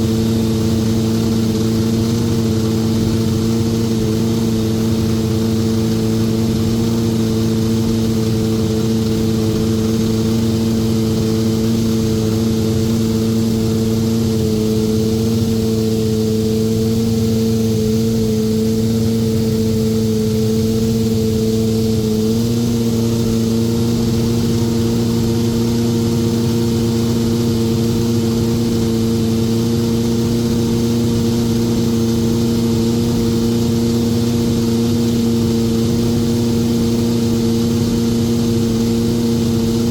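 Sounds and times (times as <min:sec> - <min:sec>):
racing car engine high-pitched drone: 0:00.0 - 0:39.9.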